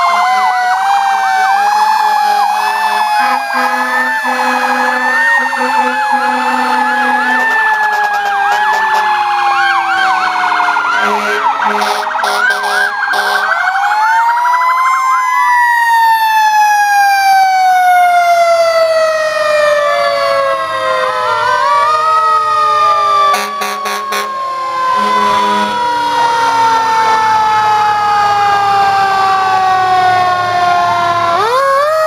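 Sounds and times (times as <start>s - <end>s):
fire truck sirens: 0.0s - 32.0s.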